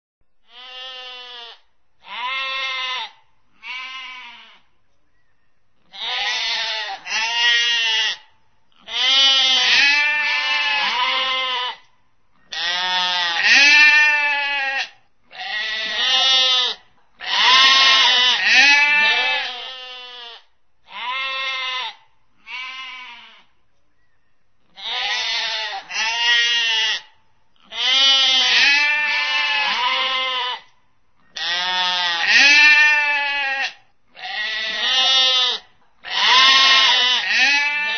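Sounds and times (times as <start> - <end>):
sheep and lambs bleating: 0.4 - 4.7, 5.9 - 23.6, 24.7 - 37.9.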